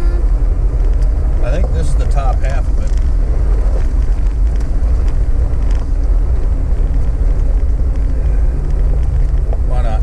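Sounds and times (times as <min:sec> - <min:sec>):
engine and tyre rumble: 0:00.0 - 0:10.0
gravel and suspension knocks: 0:00.6 - 0:10.0.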